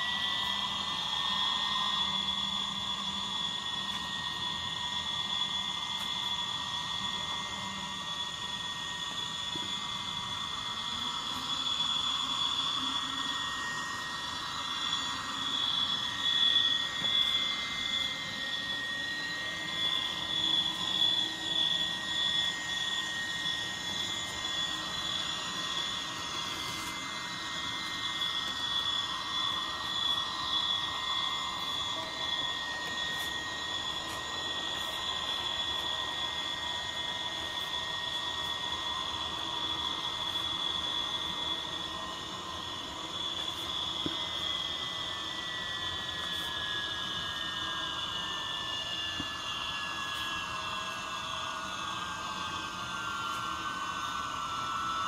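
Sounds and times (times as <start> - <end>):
high whine over hiss: 0.0 - 55.0.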